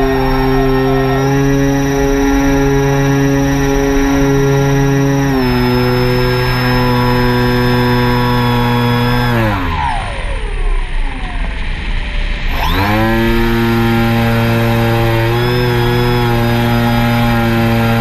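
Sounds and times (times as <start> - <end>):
drone motors and propellers whirring: 0.0 - 18.0.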